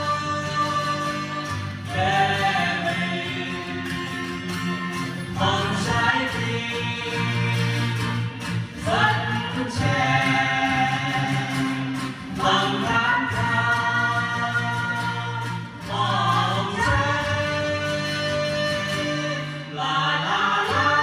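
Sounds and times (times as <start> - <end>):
people singing: 0.0 - 21.0.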